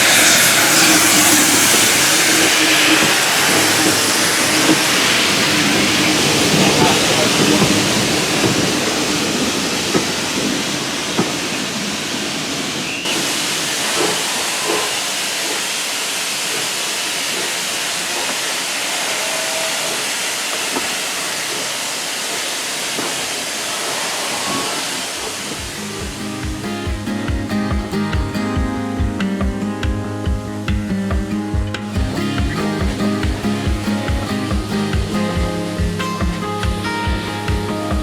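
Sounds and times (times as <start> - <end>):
steam locomotive hissing steam: 0.0 - 28.5, 31.9 - 38.0.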